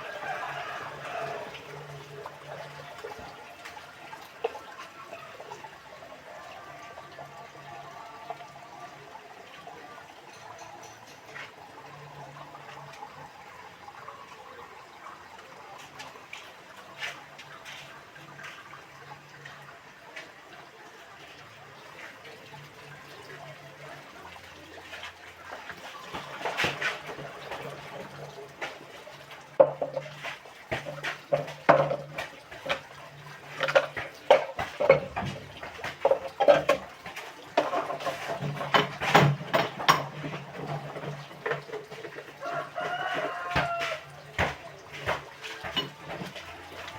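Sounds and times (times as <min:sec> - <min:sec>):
water splashing: 0:00.0 - 0:46.9.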